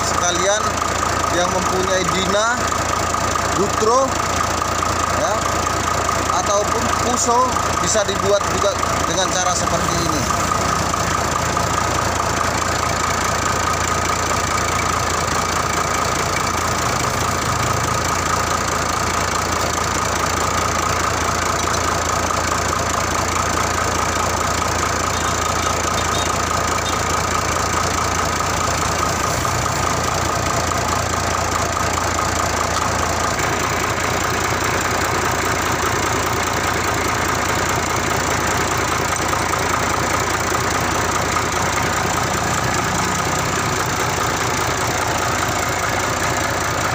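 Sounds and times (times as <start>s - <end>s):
truck diesel engine idling: 0.0s - 46.9s.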